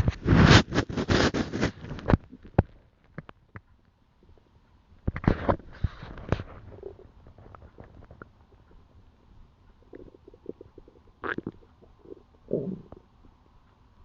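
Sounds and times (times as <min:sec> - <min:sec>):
stomach rumbling and gurgling: 0:00.0 - 0:13.7.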